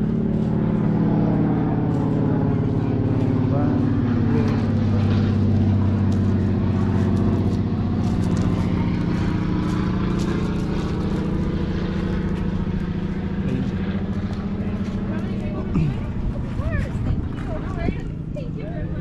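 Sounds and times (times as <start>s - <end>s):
propeller airplane droning overhead: 0.0s - 19.0s.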